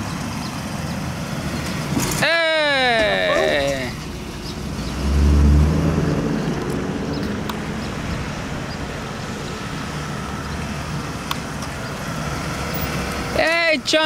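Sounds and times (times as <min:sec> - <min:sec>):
bus passing by: 0:00.0 - 0:14.0.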